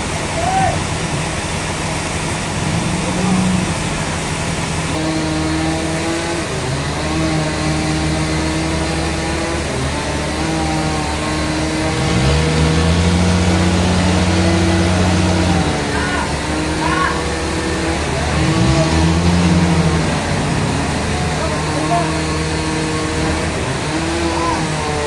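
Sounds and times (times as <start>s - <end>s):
sawmill engine hum: 0.0s - 25.0s.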